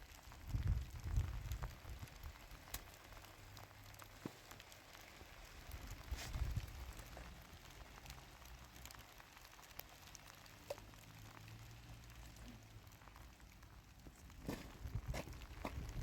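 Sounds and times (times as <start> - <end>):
drip-like ticks: 0.0 - 15.9
faint rain falling: 0.0 - 16.0.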